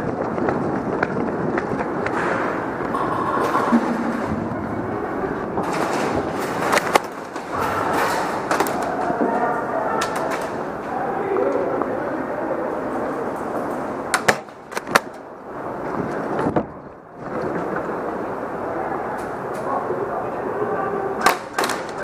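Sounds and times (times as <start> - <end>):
players scuffing and rumbling: 0.0 - 18.6.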